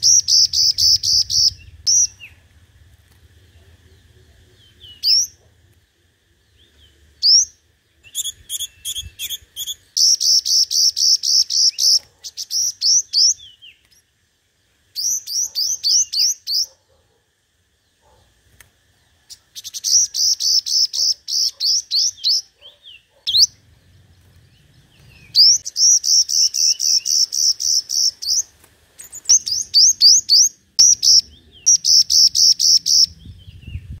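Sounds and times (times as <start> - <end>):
bird singing high trills: 0.0 - 2.5, 3.5 - 5.4, 6.5 - 14.1, 14.9 - 16.7, 19.3 - 34.0.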